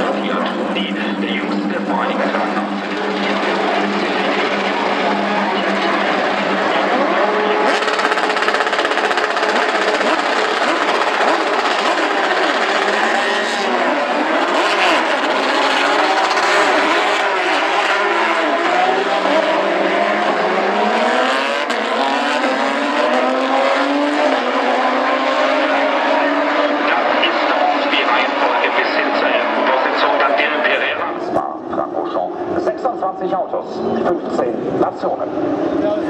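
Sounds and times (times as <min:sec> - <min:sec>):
race car accelerating away: 0:00.0 - 0:36.0
race car engines changing gear: 0:00.0 - 0:36.0.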